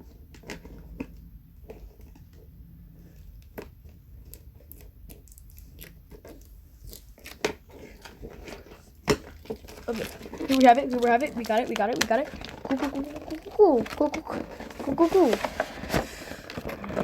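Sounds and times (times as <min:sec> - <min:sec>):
packaging crinkling and snapping: 0:03.4 - 0:17.0.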